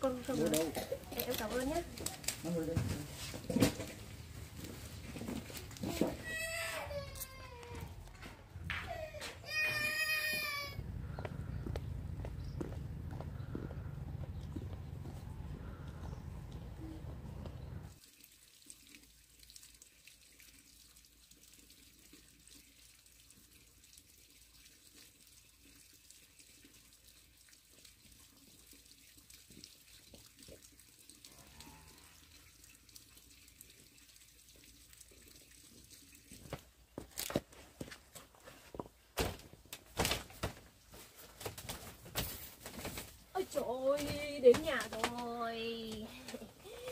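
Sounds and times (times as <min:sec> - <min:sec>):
faint trickle of water: 0:00.0 - 0:39.1, 0:42.6 - 0:46.9.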